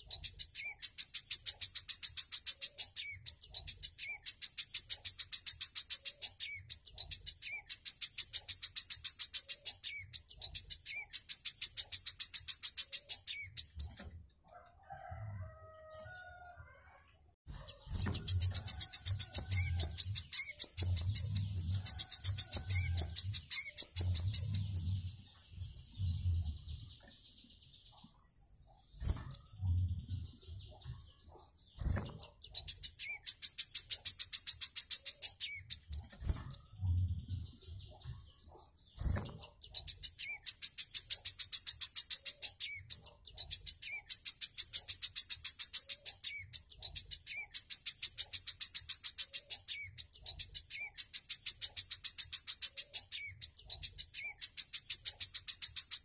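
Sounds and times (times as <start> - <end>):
bird high-pitched chattering song: 0.0 - 14.2, 17.5 - 28.0, 28.9 - 56.0.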